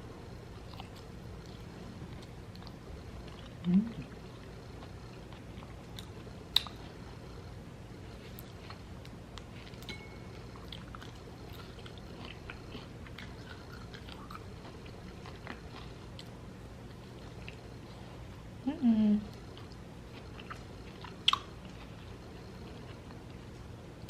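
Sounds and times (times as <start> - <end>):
steady low hum: 0.0 - 24.0
person chewing and biting food: 0.5 - 7.0, 8.1 - 18.4, 19.3 - 23.4.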